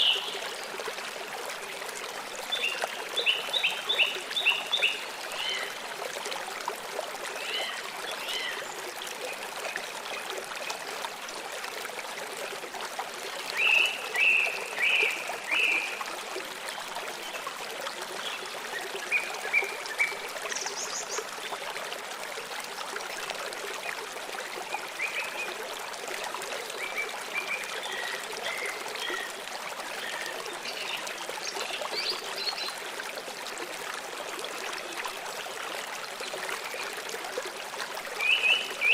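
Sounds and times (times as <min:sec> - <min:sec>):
water flowing in a stream: 0:00.0 - 0:38.9.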